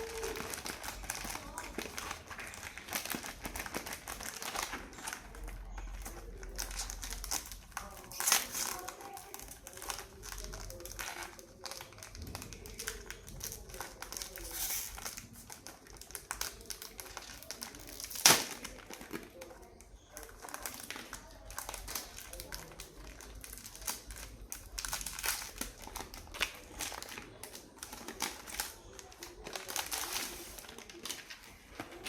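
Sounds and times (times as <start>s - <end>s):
wrappers crinkling and rustling: 0.0s - 32.0s.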